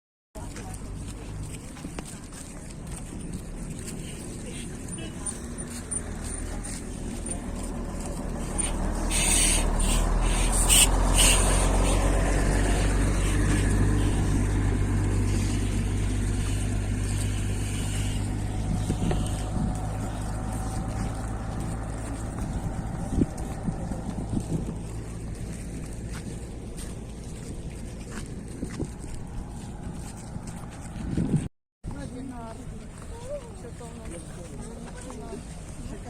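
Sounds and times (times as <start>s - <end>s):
engine running at low revs: 0.4s - 31.5s.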